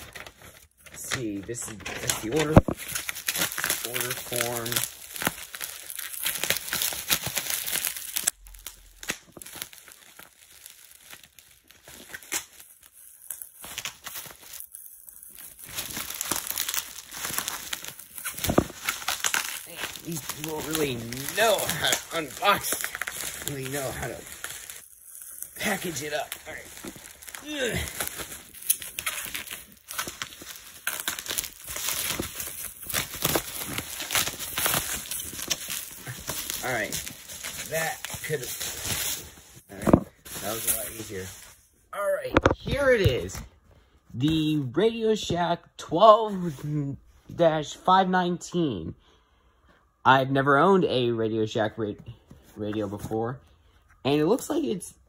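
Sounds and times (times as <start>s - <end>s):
bubble wrap crinkling and crackling: 0.0s - 45.2s.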